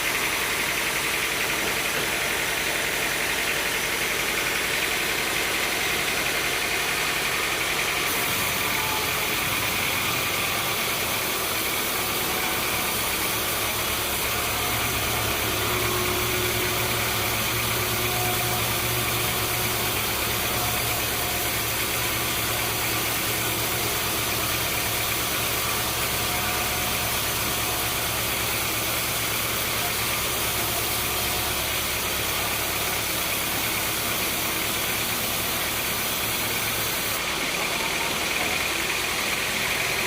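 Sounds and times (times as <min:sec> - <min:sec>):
sawmill machinery hum: 0:00.0 - 0:40.0.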